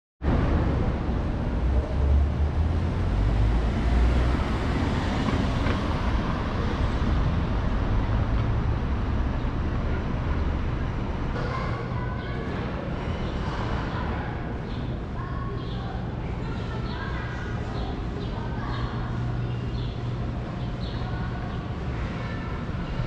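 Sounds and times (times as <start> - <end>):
city street traffic: 0.2 - 23.0.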